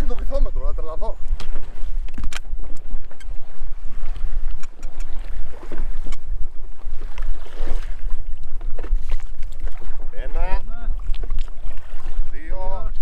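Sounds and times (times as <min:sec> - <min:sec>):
choppy water against hull: 0:00.0 - 0:13.0
wind buffeting microphone: 0:00.0 - 0:13.0.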